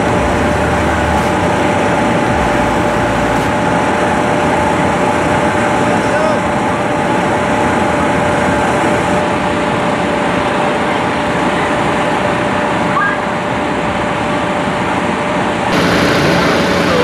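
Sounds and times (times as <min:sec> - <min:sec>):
machine droning: 0:00.0 - 0:17.0
steady machine whine: 0:00.0 - 0:17.0.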